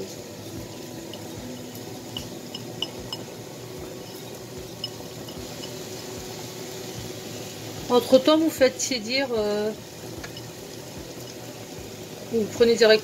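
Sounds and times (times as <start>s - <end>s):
rice grains ticking: 0.0s - 8.2s, 9.3s - 12.3s
food sizzling in a wok: 0.0s - 13.0s.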